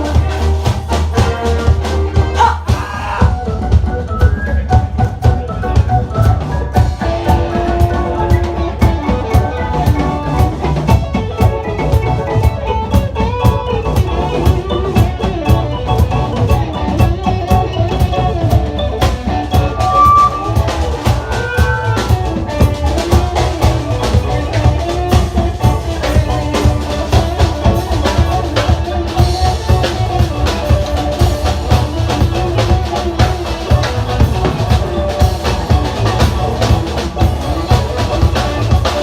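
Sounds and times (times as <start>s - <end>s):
drum kit beat: 0.0s - 39.0s
rock band playing: 0.0s - 39.0s.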